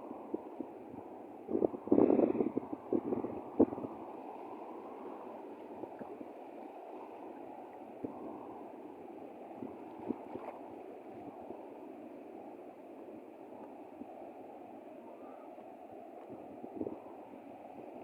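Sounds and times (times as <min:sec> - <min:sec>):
sea water rushing: 0:00.0 - 0:18.0.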